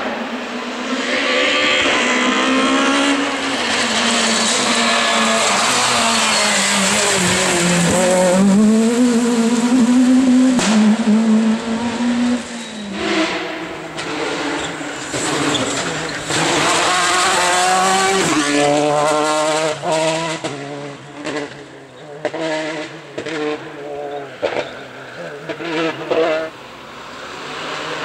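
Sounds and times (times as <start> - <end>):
rally car engine at high revs: 0.0 - 28.0.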